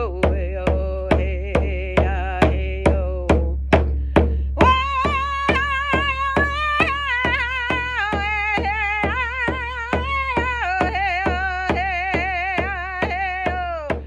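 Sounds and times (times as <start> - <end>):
woman singing long held notes: 0.0 - 3.6, 4.2 - 14.0
hand drum struck with drumstick: 0.0 - 14.0.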